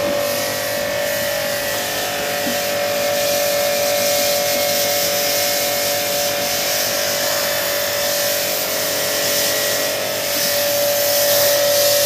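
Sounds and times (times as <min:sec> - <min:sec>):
air conditioning fans whooshing: 0:00.0 - 0:12.0
steady hum: 0:00.0 - 0:12.0.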